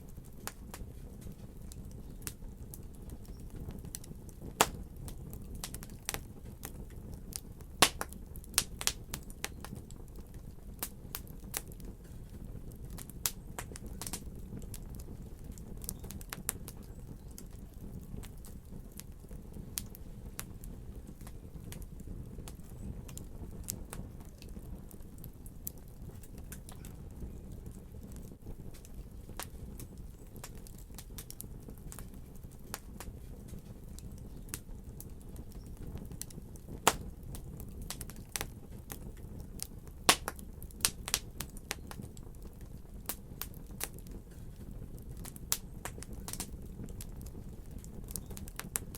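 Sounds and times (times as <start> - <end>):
fire crackling and popping: 0.0 - 48.9
wood fire rumbling: 0.0 - 48.9.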